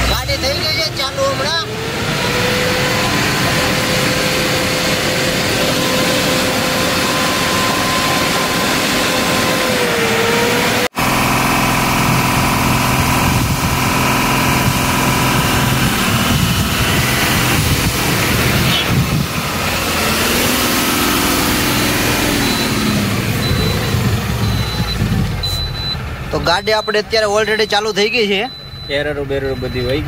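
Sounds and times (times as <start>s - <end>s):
diesel engine idling: 0.0s - 30.0s
high whine: 0.0s - 30.0s.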